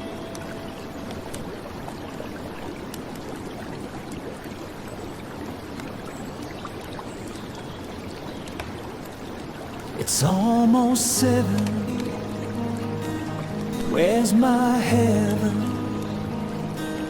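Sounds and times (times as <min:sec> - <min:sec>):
rain falling on water: 0:00.0 - 0:17.0
river water rushing: 0:00.0 - 0:17.0.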